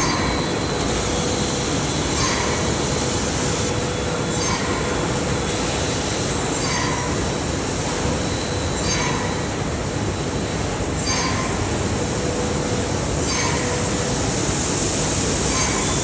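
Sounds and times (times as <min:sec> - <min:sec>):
bag making machines running: 0:00.0 - 0:16.0.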